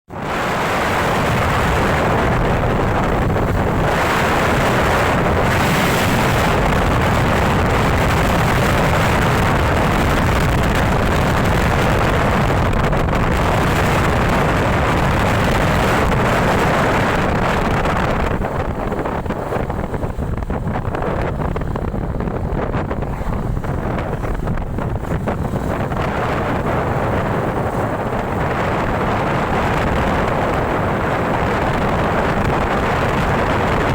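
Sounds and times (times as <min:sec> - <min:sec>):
wind rushing over microphone: 0:00.1 - 0:33.9.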